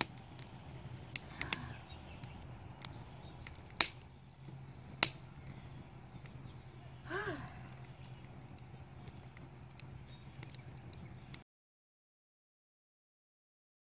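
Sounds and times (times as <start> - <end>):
sharp pops from burning logs: 0.0 - 11.4
wood fire crackling: 0.0 - 11.4.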